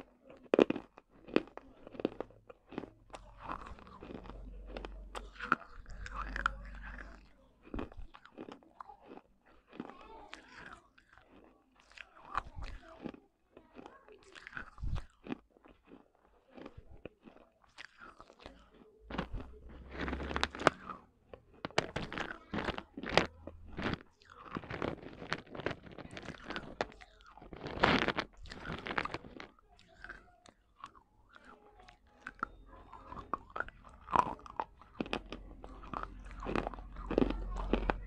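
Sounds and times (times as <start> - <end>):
chewing crunchy clay: 0.0 - 38.0.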